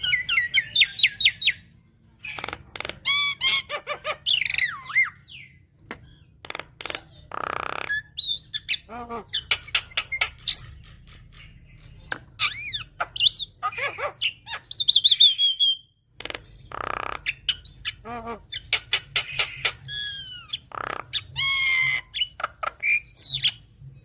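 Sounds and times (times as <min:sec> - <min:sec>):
myna bird singing: 0:00.0 - 0:24.0.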